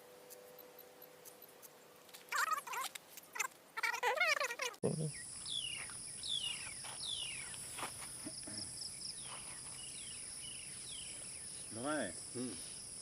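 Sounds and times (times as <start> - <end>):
insects trilling: 0.2 - 13.0.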